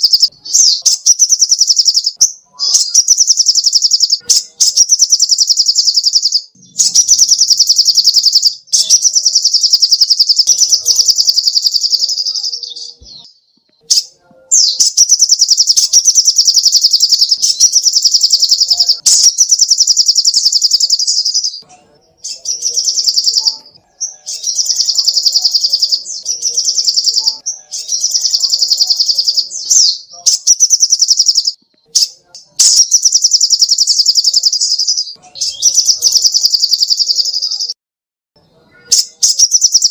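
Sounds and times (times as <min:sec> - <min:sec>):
bird singing high-pitched trills: 0:00.0 - 0:37.7, 0:38.8 - 0:39.9.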